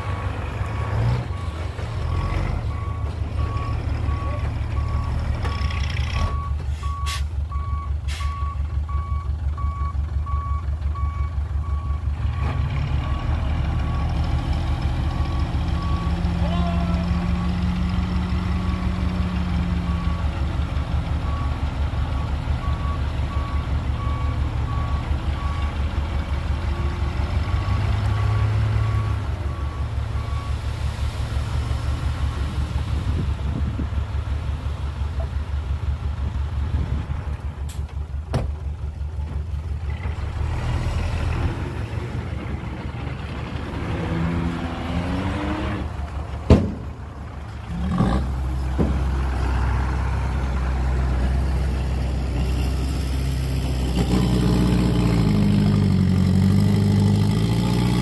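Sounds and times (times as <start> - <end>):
heavy diesel machinery rumbling: 0.0 - 58.0.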